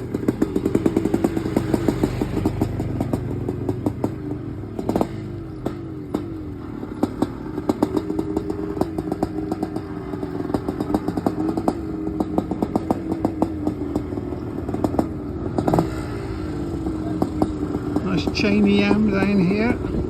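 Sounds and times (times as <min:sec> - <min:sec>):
motocross motorcycle engine running: 0:00.0 - 0:20.0.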